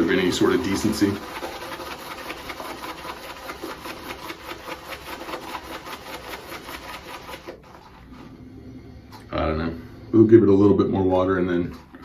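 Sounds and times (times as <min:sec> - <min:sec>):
shaving brush whisking lather: 0:00.0 - 0:08.4, 0:10.5 - 0:12.0.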